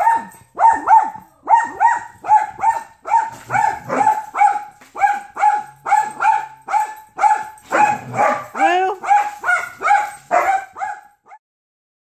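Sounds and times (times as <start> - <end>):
small dog barking rapidly: 0.0 - 11.4.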